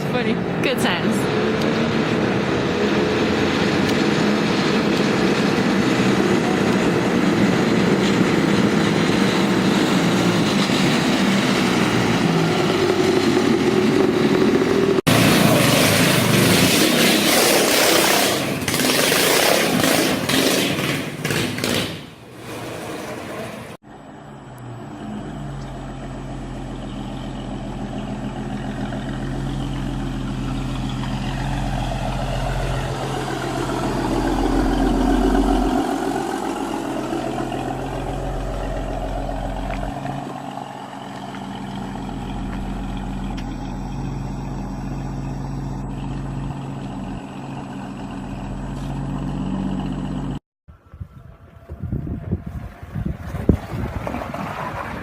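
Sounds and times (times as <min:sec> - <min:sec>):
vehicle engines running: 0:00.0 - 0:55.0.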